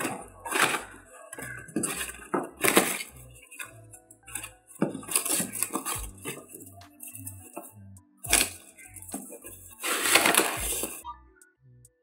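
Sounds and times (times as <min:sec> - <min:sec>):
foam scraping and crunching: 0:00.0 - 0:03.7, 0:04.3 - 0:07.7, 0:08.3 - 0:11.0.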